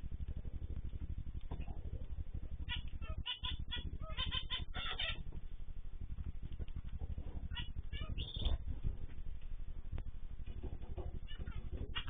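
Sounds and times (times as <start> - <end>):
birds chirping: 0.0 - 9.0, 10.4 - 12.0
steady low buzz: 0.0 - 12.0.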